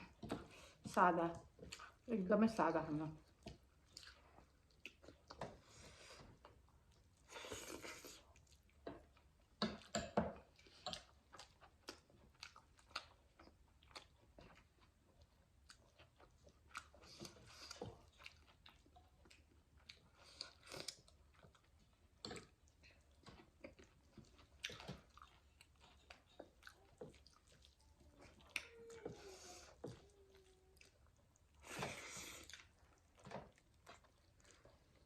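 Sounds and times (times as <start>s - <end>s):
chewing and mouth sounds: 0.0s - 2.1s, 3.1s - 35.0s.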